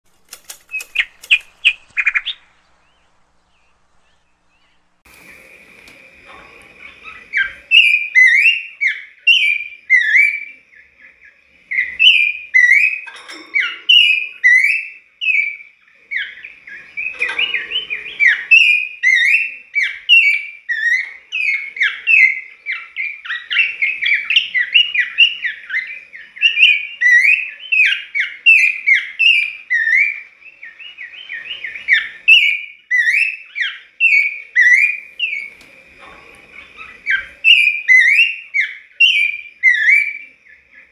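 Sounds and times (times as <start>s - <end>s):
bird singing whistled notes: 7.0s - 35.6s, 36.7s - 40.9s.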